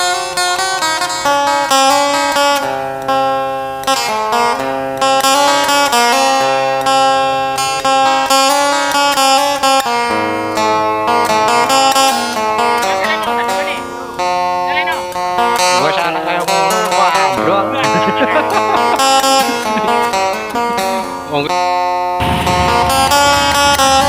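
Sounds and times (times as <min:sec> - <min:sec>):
plucked string instrumental music: 0:00.0 - 0:24.0.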